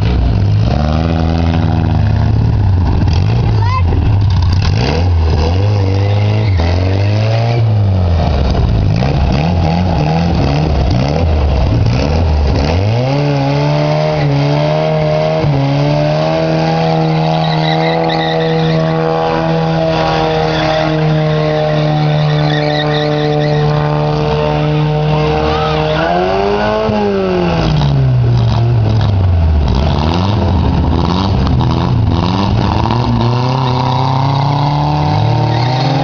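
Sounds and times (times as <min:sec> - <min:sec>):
racing engine revving: 0:00.0 - 0:36.0.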